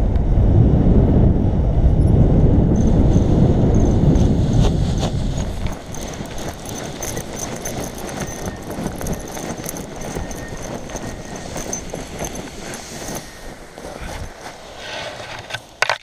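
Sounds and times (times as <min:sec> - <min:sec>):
wind rushing over microphone: 0:00.0 - 0:15.8.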